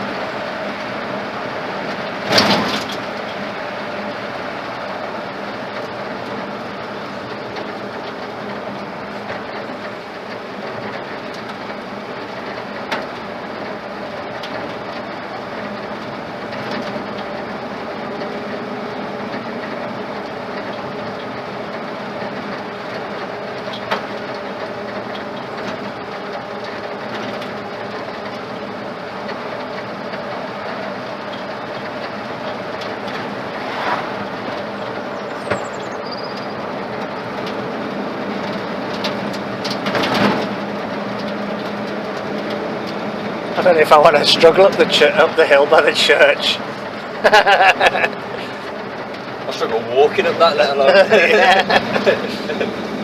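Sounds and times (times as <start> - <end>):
road and rattle noise: 0.0 - 53.0
truck engine running: 0.0 - 53.0.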